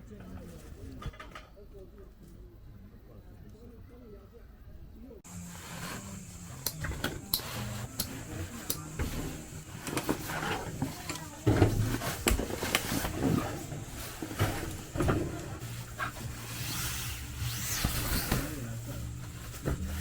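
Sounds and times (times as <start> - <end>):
low steady hum: 1.6 - 20.0.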